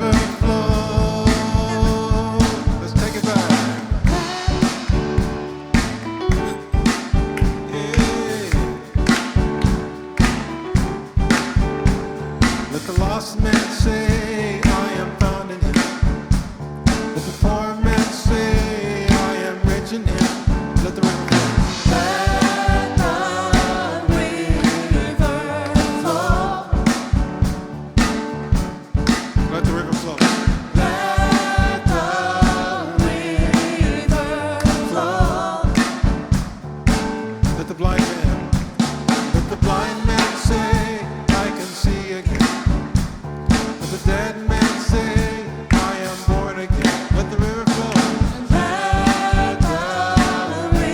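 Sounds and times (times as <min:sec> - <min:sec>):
drum kit beat: 0:00.0 - 0:50.9
gospel band playing: 0:00.0 - 0:50.9
people singing: 0:00.0 - 0:50.9.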